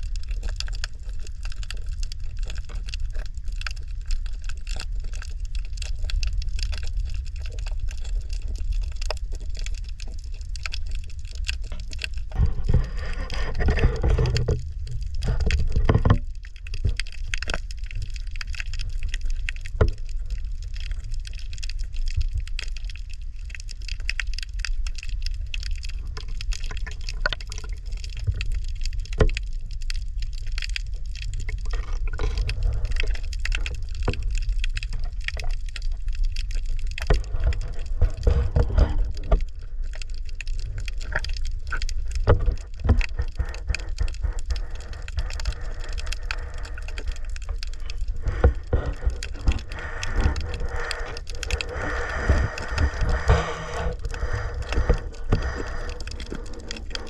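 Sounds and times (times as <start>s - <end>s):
small clicks and crackles: 0.0s - 57.0s
water low rumble: 0.0s - 57.0s.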